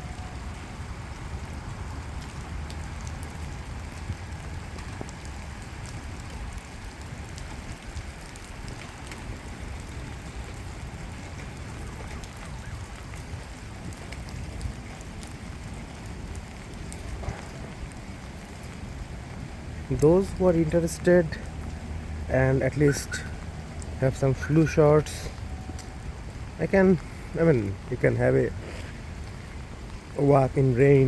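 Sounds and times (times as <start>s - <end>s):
raindrop ticks: 0.0s - 31.0s
steady rain hissing: 0.0s - 31.0s.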